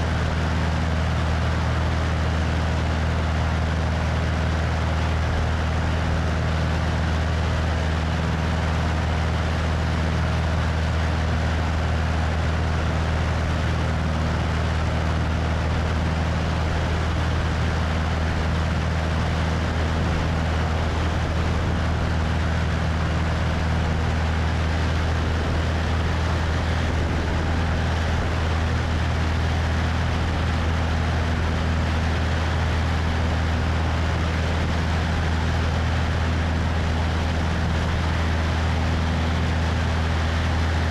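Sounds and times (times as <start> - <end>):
propeller plane engine humming: 0.0 - 40.9
wind rushing over microphone: 7.0 - 40.9.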